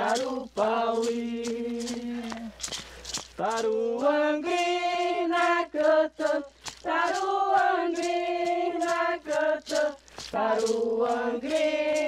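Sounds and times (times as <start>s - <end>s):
group of voices singing: 0.0s - 2.6s, 3.4s - 12.0s.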